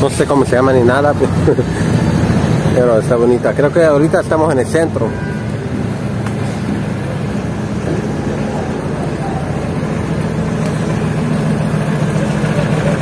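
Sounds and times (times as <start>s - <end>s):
street traffic: 0.0s - 13.0s
vehicle engine running: 0.0s - 13.0s.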